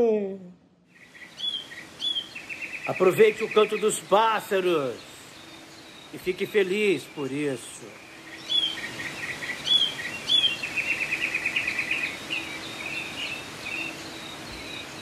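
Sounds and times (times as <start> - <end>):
fast bird trill: 0.9 - 15.0
songbirds whistled chirps: 0.9 - 15.0.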